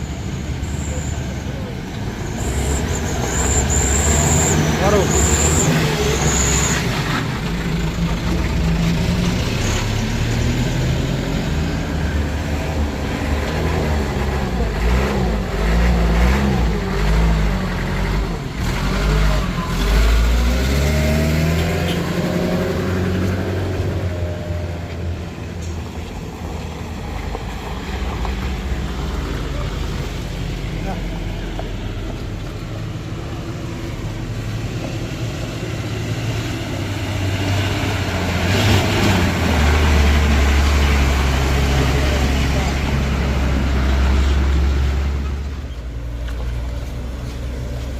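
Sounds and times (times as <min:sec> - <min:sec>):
vehicle engines revving uphill: 0:00.0 - 0:47.9.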